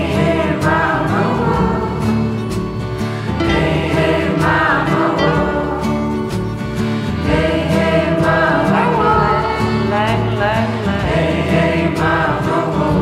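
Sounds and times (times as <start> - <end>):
several voices singing: 0.0 - 2.5, 3.2 - 13.0
low musical accompaniment: 0.0 - 13.0.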